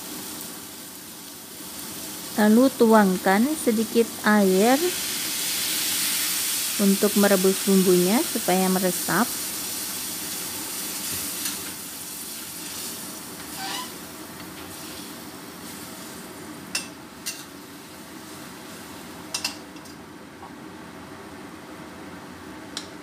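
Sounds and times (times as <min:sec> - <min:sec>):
food sizzling in a wok: 0:00.0 - 0:19.9.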